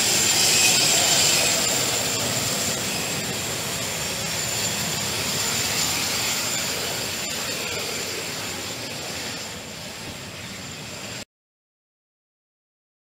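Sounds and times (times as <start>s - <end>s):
jet engines with high whine: 0.0s - 11.3s.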